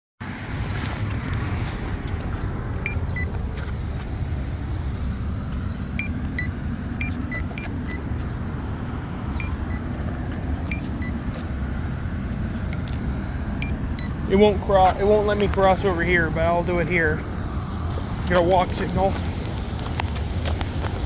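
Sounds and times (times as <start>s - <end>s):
road traffic running past: 0.2s - 21.0s.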